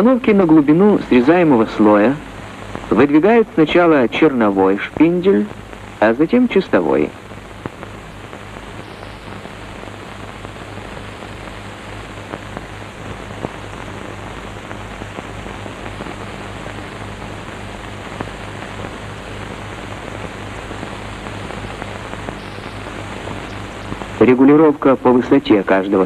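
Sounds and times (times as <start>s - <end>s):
film soundtrack hiss and crackle: 0.0s - 26.0s
low mains hum: 0.0s - 26.0s.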